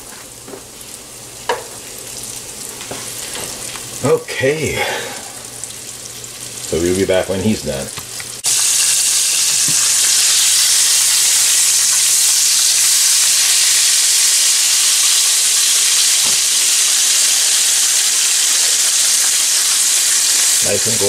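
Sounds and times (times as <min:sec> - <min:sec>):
fish deep-frying in oil: 0:00.0 - 0:21.0.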